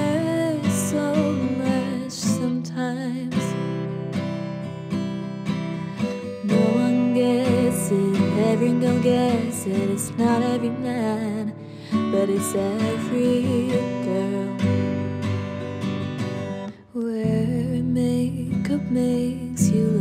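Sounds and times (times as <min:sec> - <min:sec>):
person singing: 0:00.0 - 0:04.0, 0:05.8 - 0:15.5, 0:16.7 - 0:20.0
strummed acoustic guitar: 0:00.0 - 0:20.0.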